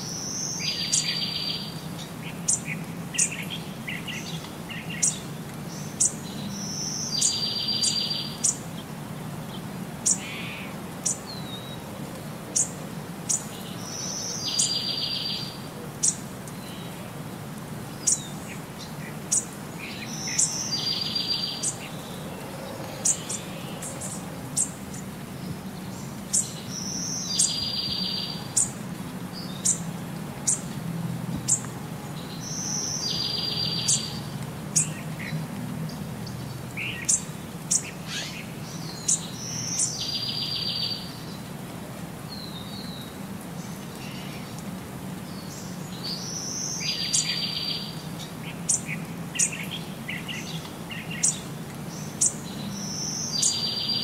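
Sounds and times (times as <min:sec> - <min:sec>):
birds chirping: 0:00.0 - 0:11.9, 0:12.5 - 0:17.0, 0:17.8 - 0:41.5, 0:42.3 - 0:54.0.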